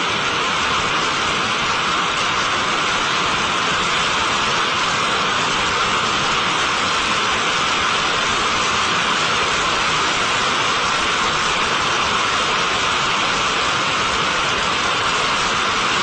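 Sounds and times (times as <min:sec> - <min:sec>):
rocket motor roaring: 0:00.0 - 0:16.0.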